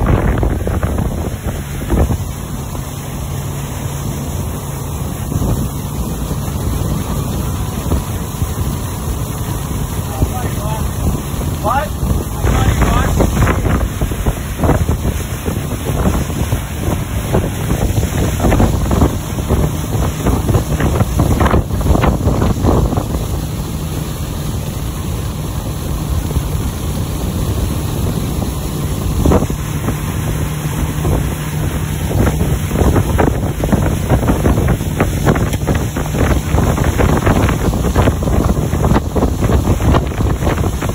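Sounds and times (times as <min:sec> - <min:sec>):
boat engine droning: 0:00.0 - 0:40.9
rush of boat wake: 0:00.0 - 0:40.9
wind buffeting microphone: 0:00.0 - 0:40.9.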